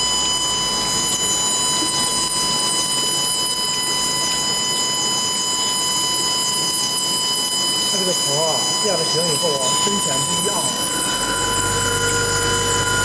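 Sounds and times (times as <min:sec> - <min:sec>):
welding machine humming: 0:00.0 - 0:13.0.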